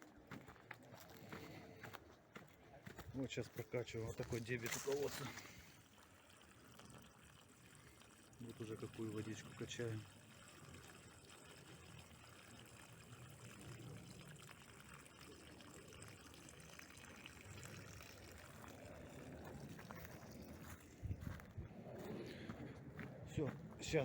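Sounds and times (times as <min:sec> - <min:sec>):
water pouring from pump: 0:03.2 - 0:22.6, 0:23.3 - 0:24.0.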